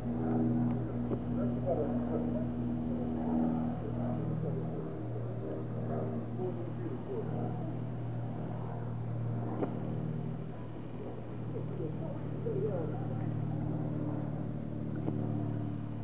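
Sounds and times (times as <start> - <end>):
propeller aircraft engine droning: 0.0 - 16.0
faint voice: 0.2 - 16.0.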